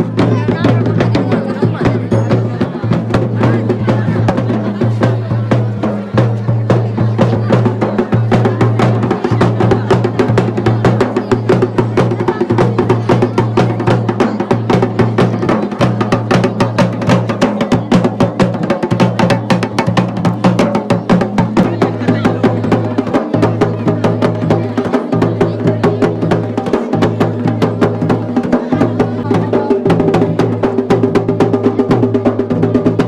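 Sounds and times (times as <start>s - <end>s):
fast continuous drumming: 0.0s - 33.0s.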